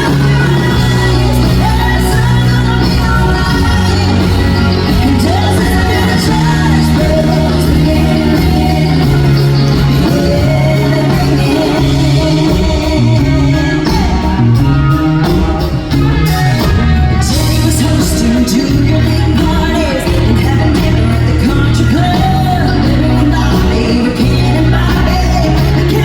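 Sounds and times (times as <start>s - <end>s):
live country-rock band: 0.0s - 26.0s
person singing: 0.0s - 26.0s.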